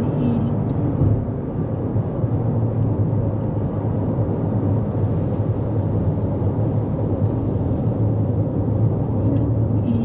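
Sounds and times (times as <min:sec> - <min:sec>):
car road noise inside cabin: 0:00.0 - 0:10.0.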